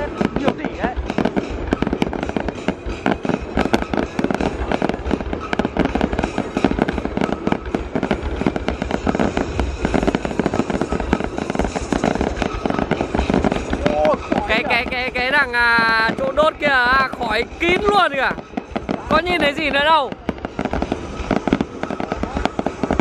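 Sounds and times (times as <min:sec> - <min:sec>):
fireworks rapid bangs: 0:00.0 - 0:23.0.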